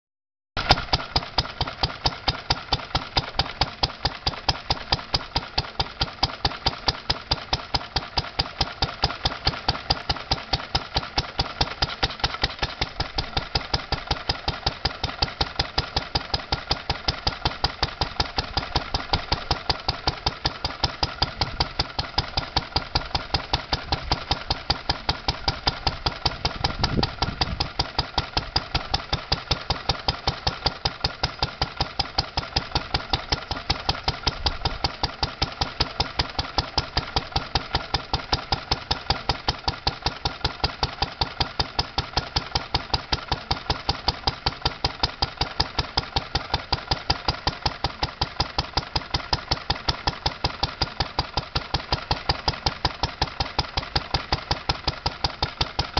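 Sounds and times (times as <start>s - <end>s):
stationary engine thumping: 0.6s - 55.9s.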